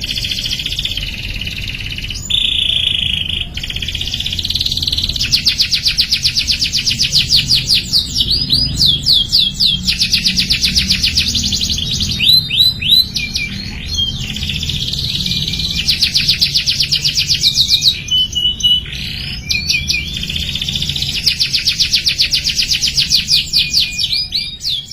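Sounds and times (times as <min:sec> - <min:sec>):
canary singing trills: 0:00.0 - 0:24.9.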